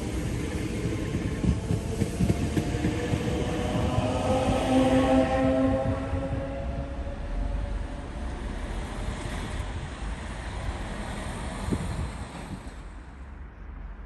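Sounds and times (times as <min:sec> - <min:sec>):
train rushing through station: 0:00.0 - 0:14.0.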